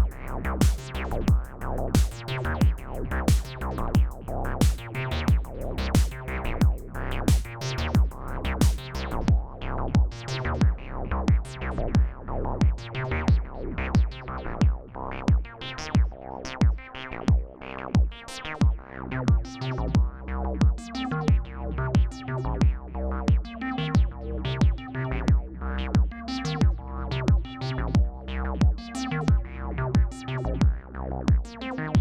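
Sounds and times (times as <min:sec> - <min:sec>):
kick drum: 0:00.0 - 0:13.4, 0:14.0 - 0:32.0.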